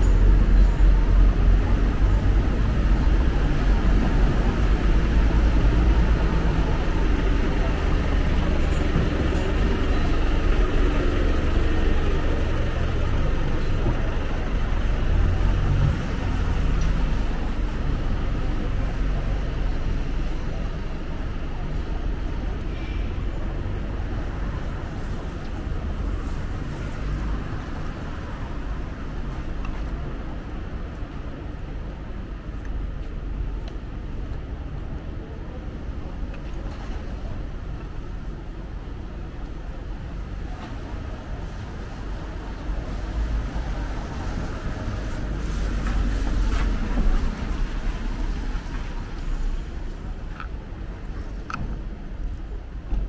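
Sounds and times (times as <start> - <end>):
traffic hum: 0.0 - 53.0.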